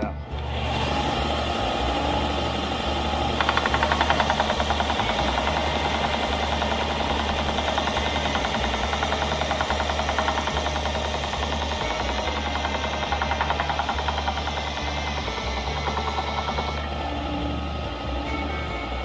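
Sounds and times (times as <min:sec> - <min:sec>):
belt sander running: 0:00.3 - 0:19.0
pulsing rasp of board sanding: 0:00.6 - 0:19.0.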